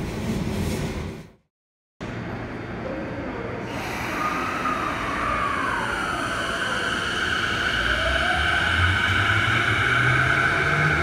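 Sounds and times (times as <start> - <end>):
stopped train hum and hiss: 2.0 - 11.0.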